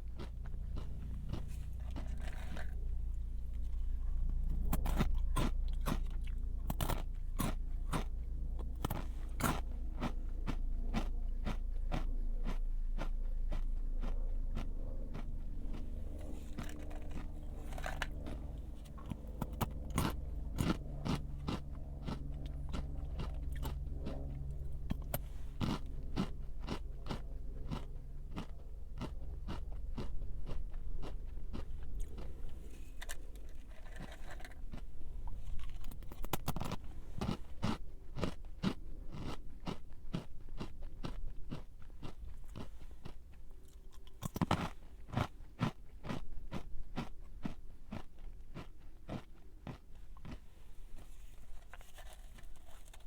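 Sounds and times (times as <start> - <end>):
person chewing crunchy snack: 0.0 - 53.0.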